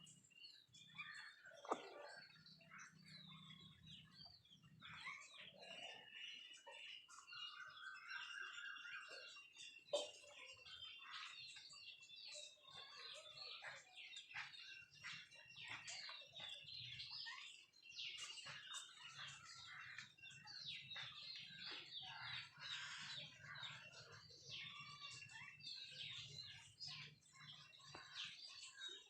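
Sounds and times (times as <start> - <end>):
chickens chirping and peeping: 0.0 - 29.0.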